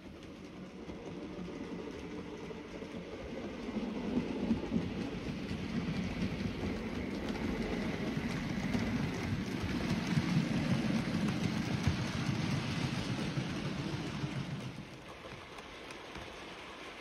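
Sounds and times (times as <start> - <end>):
model train rumbling: 0.0 - 17.0
wheels clicking over rail joints: 0.0 - 17.0.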